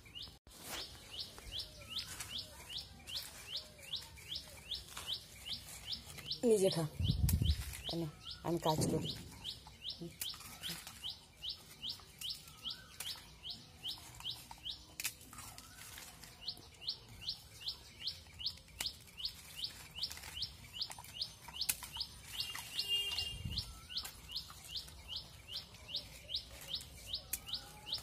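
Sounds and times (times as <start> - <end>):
small bird chirping: 0.0 - 28.0.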